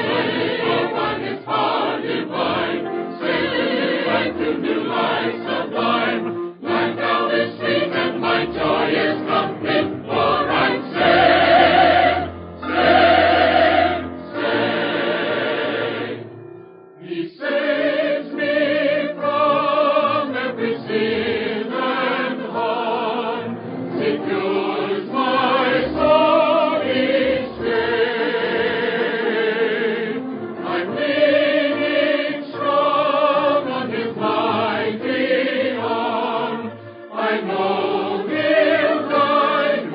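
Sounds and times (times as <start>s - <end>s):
choir singing a hymn: 0.0s - 16.3s, 17.0s - 39.9s.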